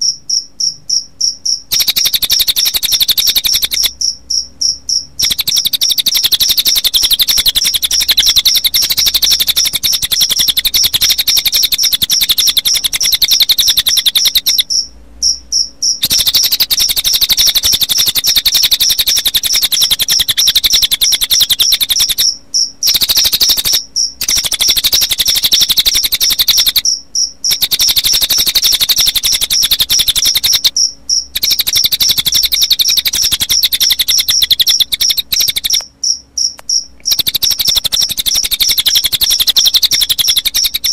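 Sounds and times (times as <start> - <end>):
bird song trill: 0.0 - 40.9
crickets chirping: 0.0 - 40.9.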